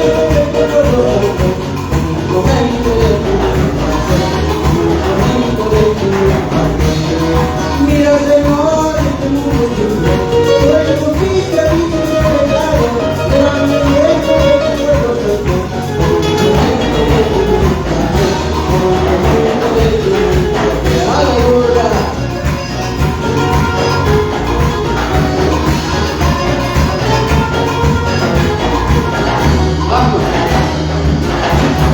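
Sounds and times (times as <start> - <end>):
latin band music with singing: 0.0 - 31.9.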